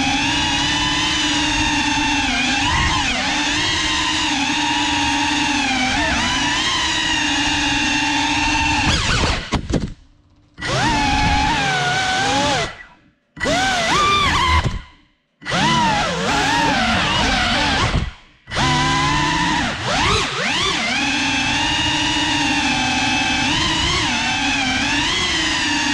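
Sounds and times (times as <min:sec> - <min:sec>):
drone motors whining: 0:00.0 - 0:09.6, 0:10.6 - 0:25.9.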